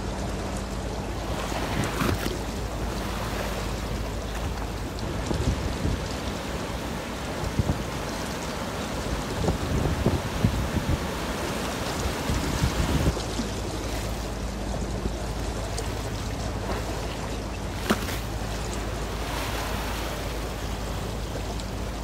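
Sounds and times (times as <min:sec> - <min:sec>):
waves breaking against bank: 0:00.0 - 0:22.0
wind and water wash: 0:00.0 - 0:22.0.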